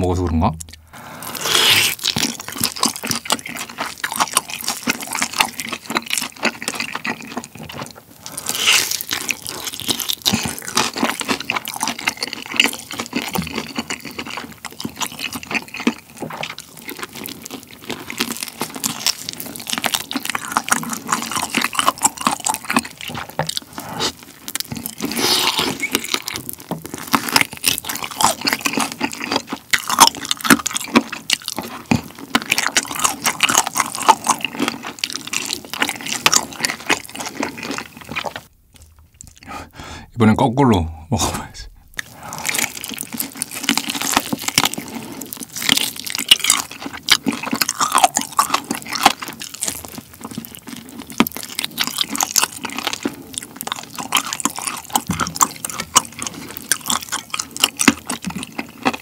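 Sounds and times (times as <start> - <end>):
chewing and lip-smacking: 0.6 - 39.7, 41.7 - 59.0
meat bitten off bone crackling: 0.6 - 39.8, 41.6 - 59.0.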